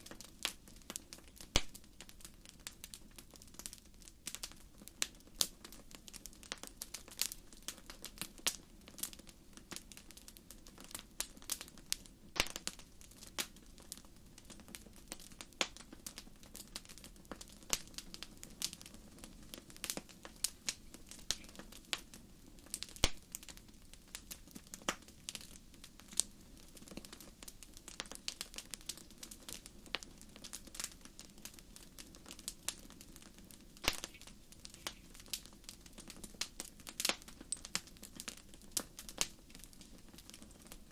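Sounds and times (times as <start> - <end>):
fire popping and snapping: 0.0 - 40.9.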